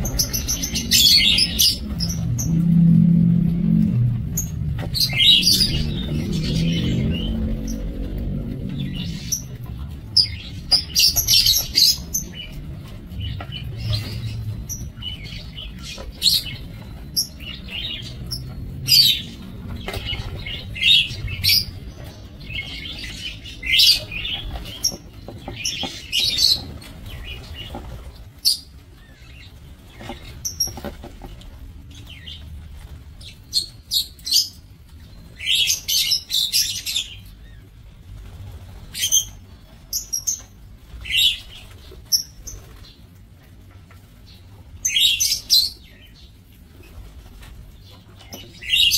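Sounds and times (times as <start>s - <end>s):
lovebirds chirping: 0.0s - 43.2s, 43.9s - 48.9s
low background rumble: 0.0s - 48.9s.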